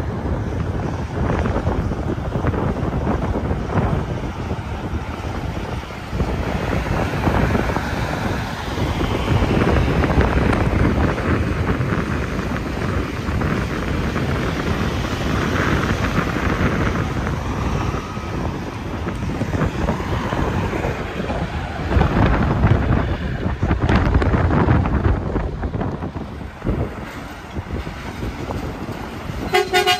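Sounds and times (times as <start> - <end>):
highway traffic rushing past: 0.0 - 29.9
wind buffeting microphone: 0.0 - 29.9
vehicle passing: 0.1 - 29.9.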